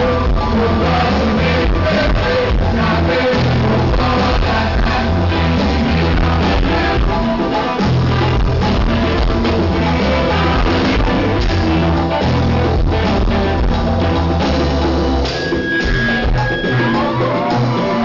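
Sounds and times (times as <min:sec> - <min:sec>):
bass guitar: 0:00.0 - 0:18.0
drums: 0:00.0 - 0:18.0
electric guitar: 0:00.0 - 0:18.0.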